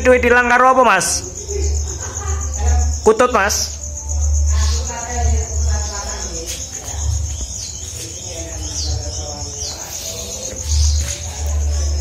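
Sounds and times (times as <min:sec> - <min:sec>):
crickets trilling: 0:00.0 - 0:12.0
small birds chirping: 0:00.0 - 0:12.0.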